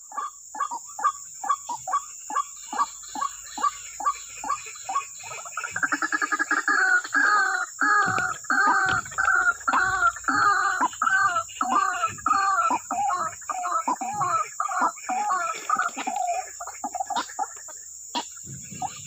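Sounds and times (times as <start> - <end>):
birds calling harshly: 0.0 - 19.0
high insect hum: 0.0 - 19.0.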